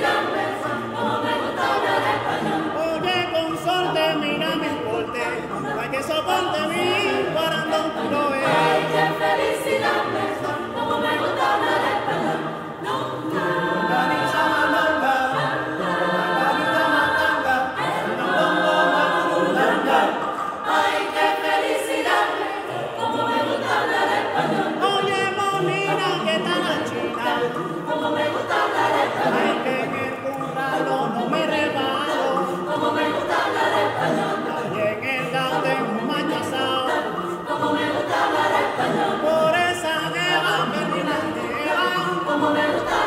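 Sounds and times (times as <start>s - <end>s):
mixed choir singing a cappella: 0.0s - 43.0s.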